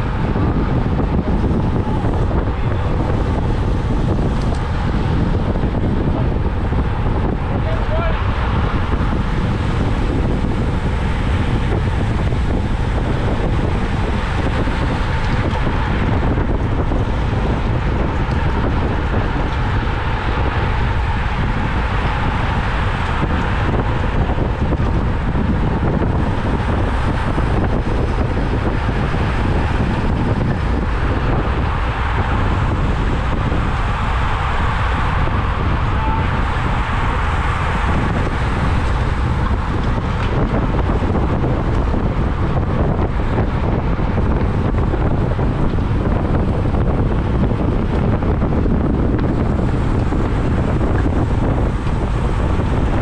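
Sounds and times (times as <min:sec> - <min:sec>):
wind roar on microphone: 0:00.0 - 0:53.0.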